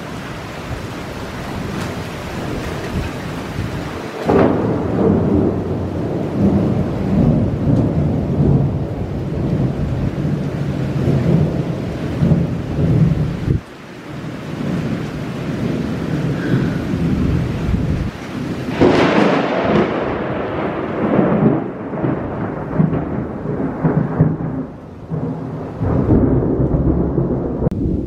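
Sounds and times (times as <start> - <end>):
steady rain falling: 0.0 - 28.0
thunder rumbling: 0.0 - 28.0.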